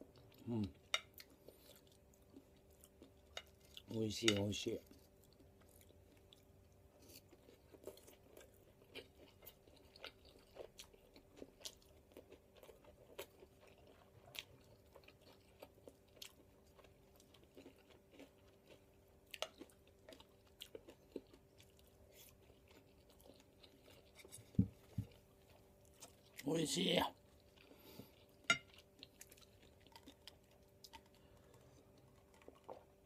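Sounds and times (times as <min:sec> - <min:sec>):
chewing and crunching: 0:00.0 - 0:33.0.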